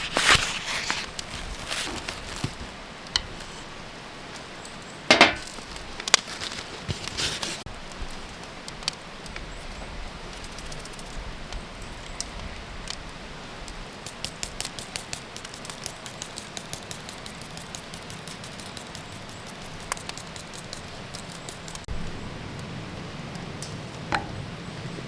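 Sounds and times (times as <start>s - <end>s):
wood fire crackling: 0.0s - 9.5s, 10.3s - 25.0s.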